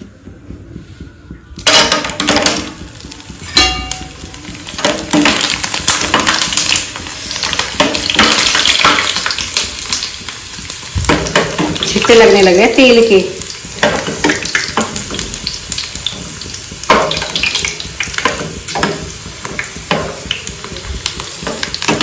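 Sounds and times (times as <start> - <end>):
food crackling in hot oil: 1.6 - 22.0.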